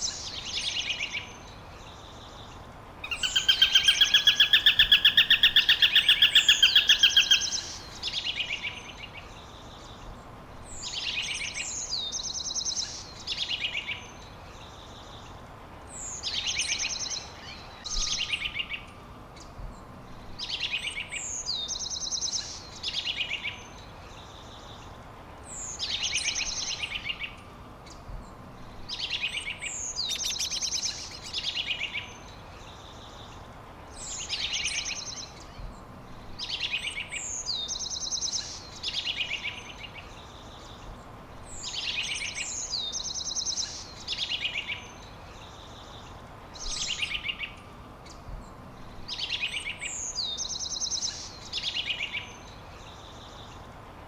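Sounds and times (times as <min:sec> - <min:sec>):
songbird singing: 0:00.0 - 0:54.0
steady background hiss: 0:00.0 - 0:54.0.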